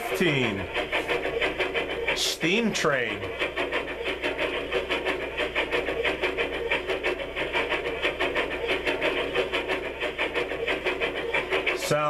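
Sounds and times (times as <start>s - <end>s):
steam locomotive chuffing from small speaker: 0.0s - 12.0s.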